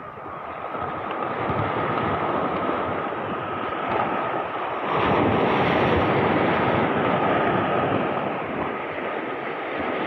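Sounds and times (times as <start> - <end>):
surf breaking on rocky shore: 0.0 - 10.0.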